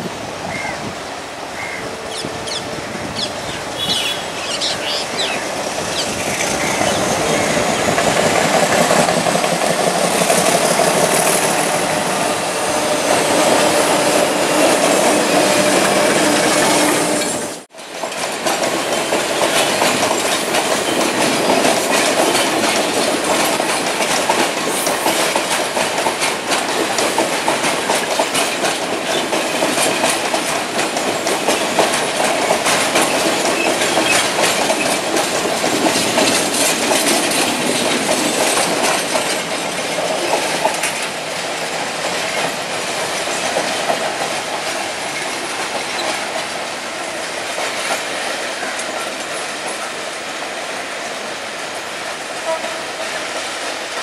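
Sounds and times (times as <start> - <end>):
train wheels clattering over rails: 3.0 - 54.0.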